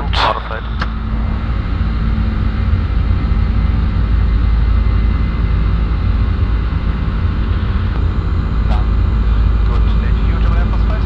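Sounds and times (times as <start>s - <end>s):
faint steady hum: 0.0s - 11.0s
jet engine rumble inside cabin: 0.0s - 11.0s.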